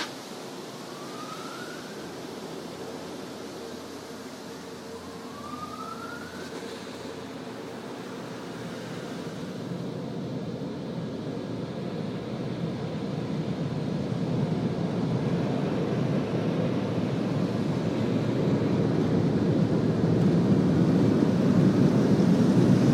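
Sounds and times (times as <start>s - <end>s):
car wash rushing roar: 0.0s - 22.9s.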